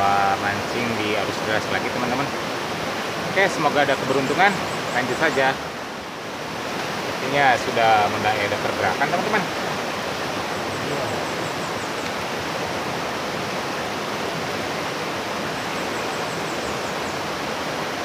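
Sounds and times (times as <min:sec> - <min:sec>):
river rapids rushing over rocks: 0:00.0 - 0:18.0.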